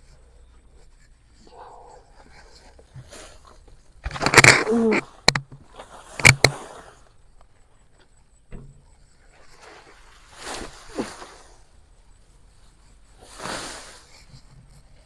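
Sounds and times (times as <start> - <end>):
grass rustling being pulled: 0.0 - 7.1, 9.4 - 15.0.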